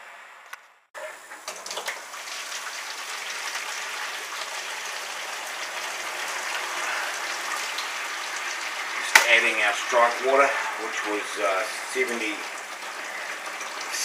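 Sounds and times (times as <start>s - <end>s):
water pouring from a hose: 1.4s - 14.0s.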